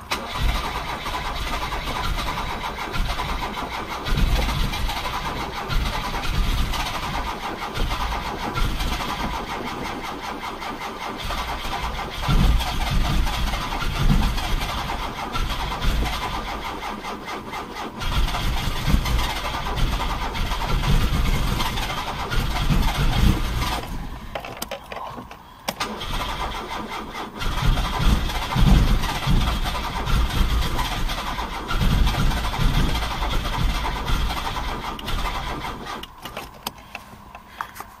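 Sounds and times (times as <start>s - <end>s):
engine cranking: 0.0s - 37.9s.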